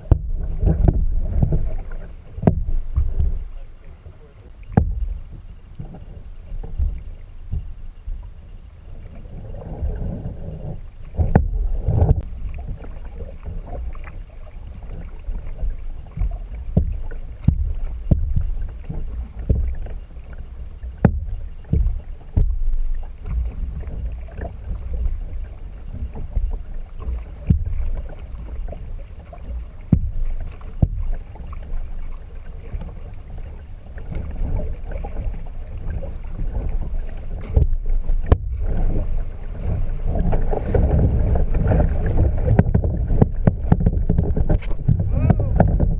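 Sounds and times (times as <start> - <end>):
low rumble with water noise: 0.0 - 45.9.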